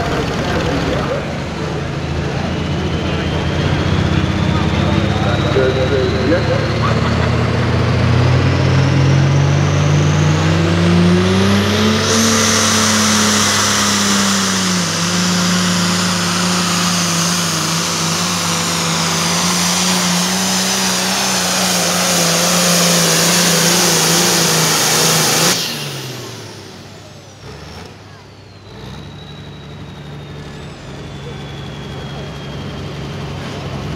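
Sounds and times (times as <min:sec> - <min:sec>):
tractor diesel engine at full throttle: 0:00.0 - 0:33.9.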